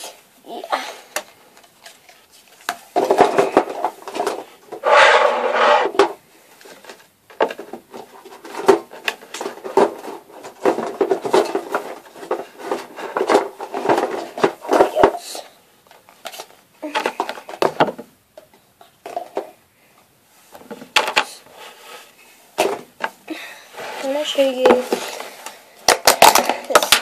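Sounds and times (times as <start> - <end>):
plastic containers clattering: 1.0 - 4.8, 5.8 - 19.6, 22.6 - 27.0.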